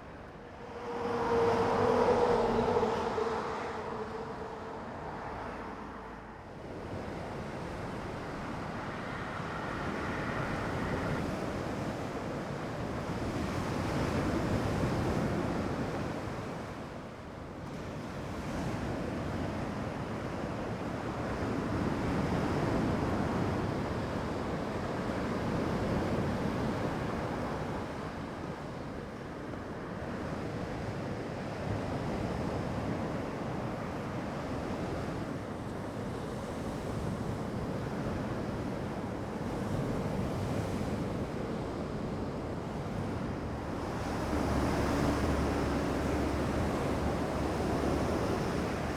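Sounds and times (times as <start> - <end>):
waves breaking on shore: 0.0 - 48.9
wind: 0.0 - 48.9.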